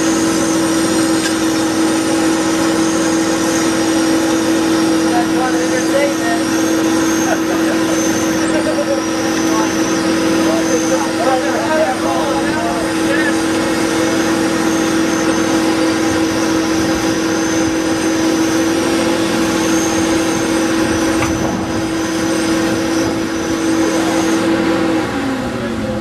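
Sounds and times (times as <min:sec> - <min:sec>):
electric winch motor whining: 0:00.0 - 0:26.0.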